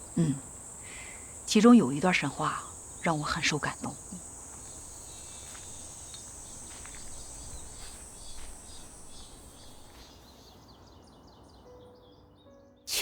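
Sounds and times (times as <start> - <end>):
crickets chirring: 0.0 - 11.7.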